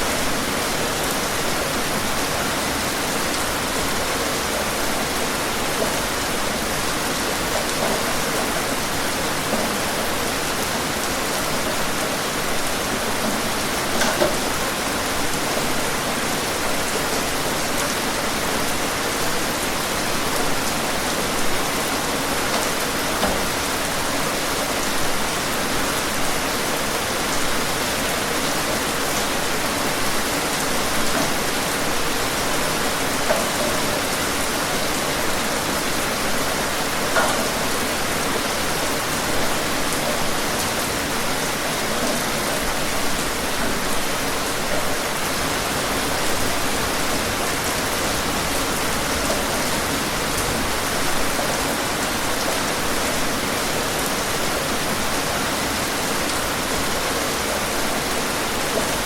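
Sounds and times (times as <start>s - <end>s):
rain falling on a surface: 0.0s - 59.0s
raindrops spattering: 0.1s - 55.0s.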